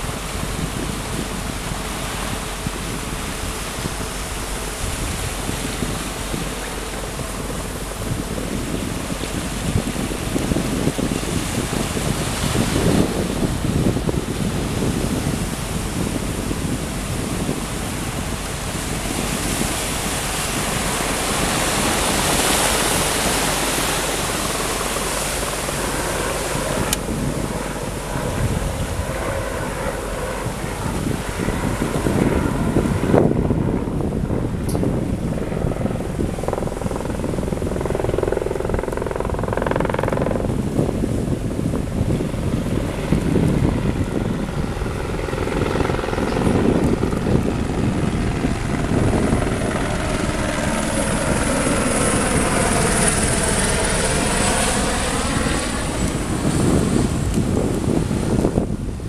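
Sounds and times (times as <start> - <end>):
sea waves: 0.0 - 59.0
wind buffeting microphone: 0.0 - 59.0.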